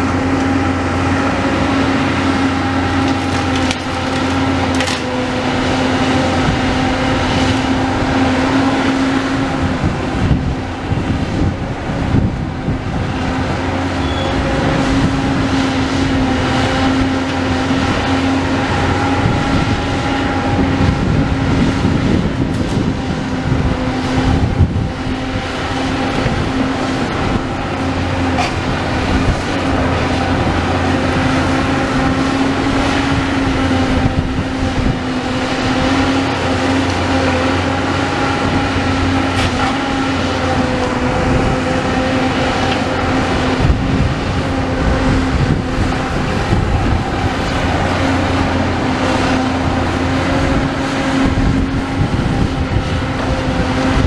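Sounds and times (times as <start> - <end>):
excavator engine droning: 0.0 - 54.0.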